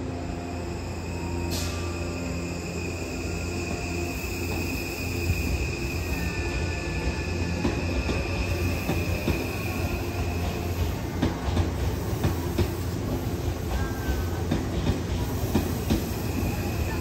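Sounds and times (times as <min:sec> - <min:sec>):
train rumbling: 0:00.0 - 0:17.0
train wheels squealing: 0:00.1 - 0:17.0.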